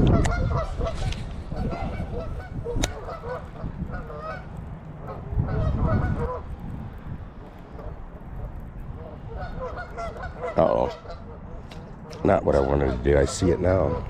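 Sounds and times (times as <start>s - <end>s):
geese honking: 0.0s - 6.5s, 7.7s - 14.0s.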